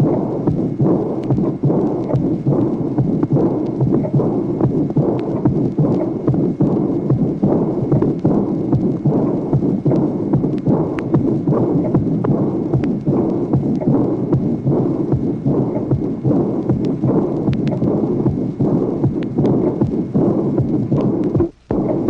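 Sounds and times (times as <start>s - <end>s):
blowing heart murmur: 0.0s - 22.0s
heartbeat knocks: 0.0s - 22.0s.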